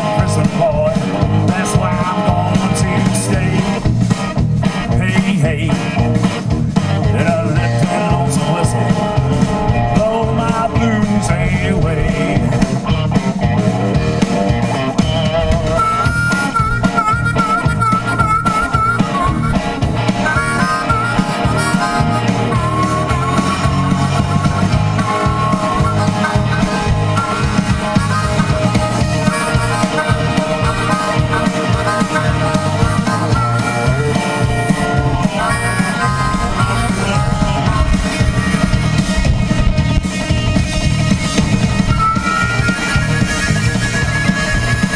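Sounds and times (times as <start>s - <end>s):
rock band playing: 0.0s - 44.9s
wavering harmonica solo: 0.0s - 44.9s.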